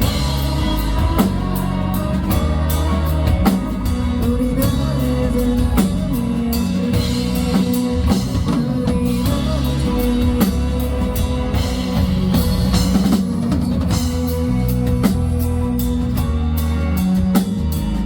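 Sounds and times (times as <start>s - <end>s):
drum kit with cymbals: 0.0s - 18.0s
electric bass: 0.0s - 18.0s
electric guitar: 0.0s - 18.0s.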